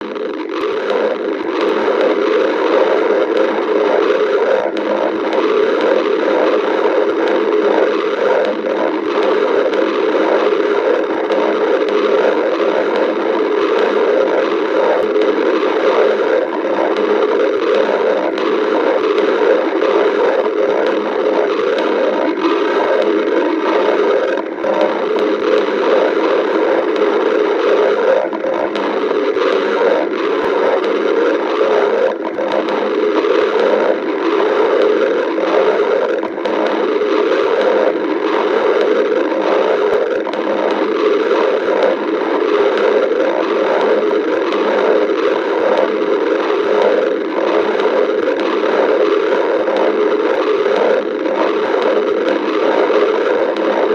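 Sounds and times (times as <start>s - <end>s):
stomach growling: 0.0s - 53.9s.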